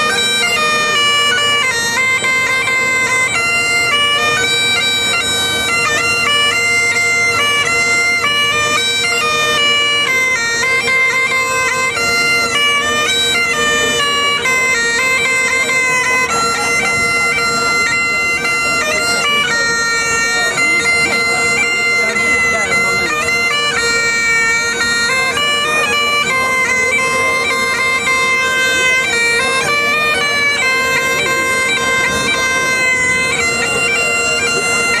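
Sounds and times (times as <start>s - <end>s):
bagpipes playing melody: 0.0s - 35.0s.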